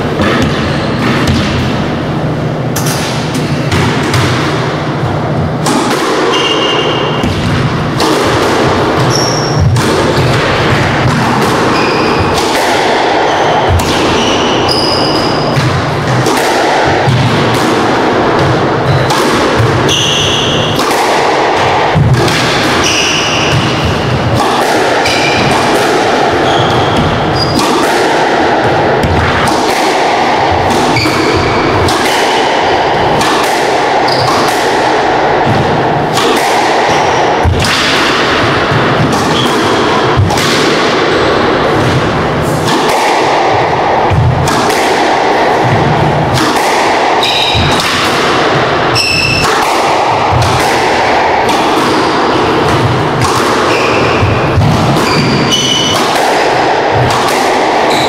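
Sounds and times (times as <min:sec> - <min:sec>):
squash ball hitting rackets and walls: 0:00.0 - 0:58.0.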